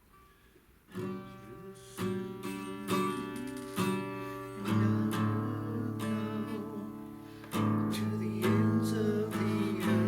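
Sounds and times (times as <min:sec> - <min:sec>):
acoustic guitar strumming chords: 0:00.1 - 0:10.0.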